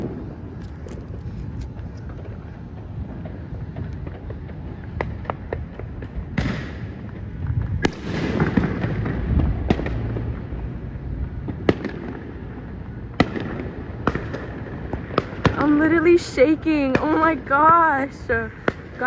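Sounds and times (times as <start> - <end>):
crackling rumble of distant fireworks: 0.0 - 19.0
fireworks bangs: 0.0 - 19.0.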